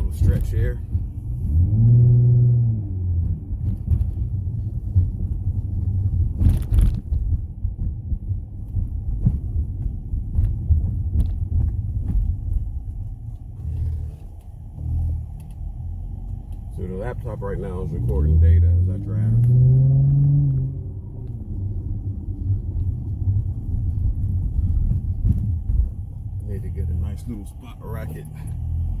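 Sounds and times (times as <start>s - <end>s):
car engine rumbling: 0.0s - 29.0s
road noise: 0.0s - 29.0s.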